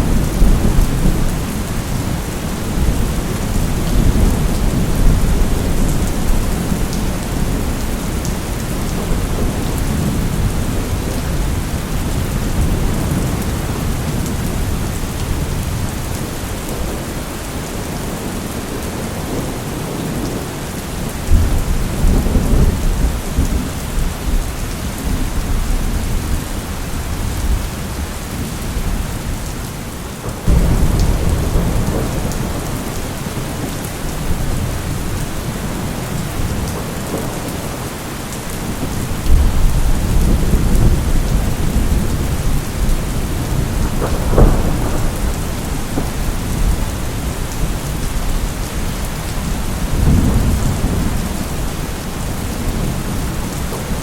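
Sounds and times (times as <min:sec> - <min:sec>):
thunder rumbling: 0:00.0 - 0:17.1, 0:21.3 - 0:54.0
steady rain falling: 0:00.0 - 0:54.0.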